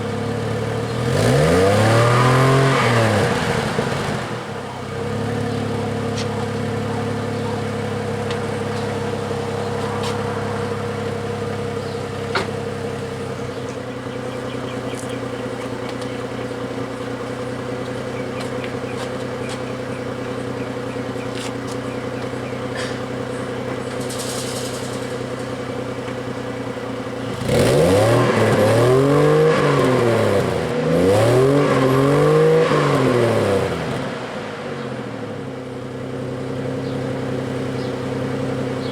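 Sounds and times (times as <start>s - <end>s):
car engine idling: 0.0s - 38.9s
engine revving: 0.0s - 38.9s.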